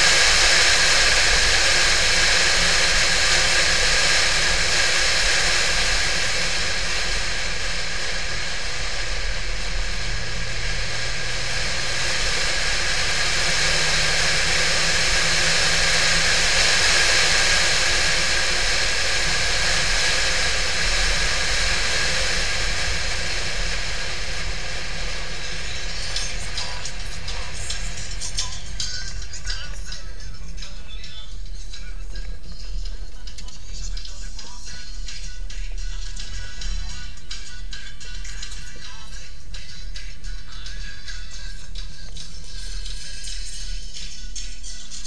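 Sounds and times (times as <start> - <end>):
wind and road noise: 0.0 - 38.7
car engine hum: 0.0 - 45.0.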